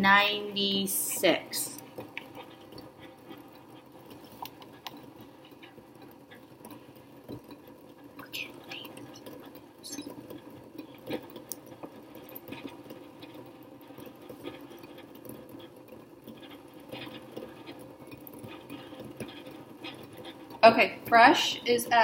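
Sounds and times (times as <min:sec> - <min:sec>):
water heating hiss and hum: 0:00.0 - 0:22.0
small ticks and crackles: 0:01.7 - 0:22.0.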